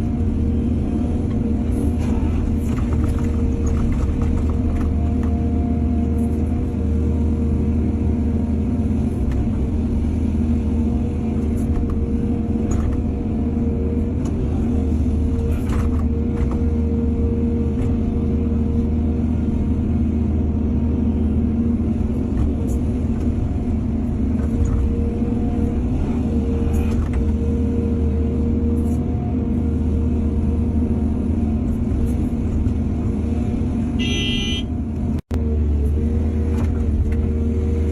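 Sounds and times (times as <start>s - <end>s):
engine whine: 0.0s - 37.9s
excavator diesel engine: 0.0s - 37.9s.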